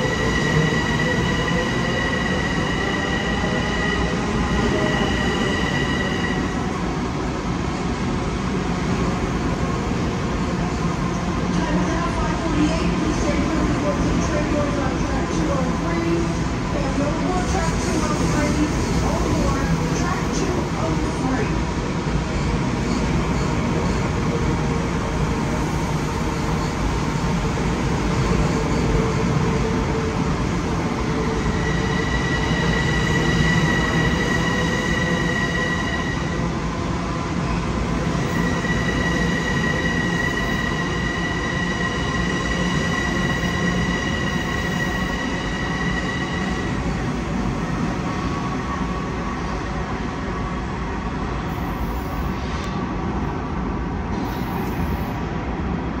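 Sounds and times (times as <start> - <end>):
electric train rumbling: 0.0 - 56.0.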